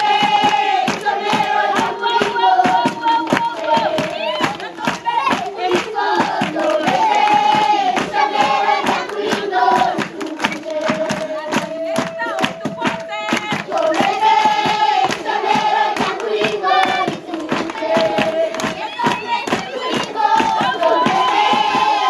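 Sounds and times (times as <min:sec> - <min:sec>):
children singing together: 0:00.0 - 0:22.0
rhythmic hand clapping: 0:00.0 - 0:22.0.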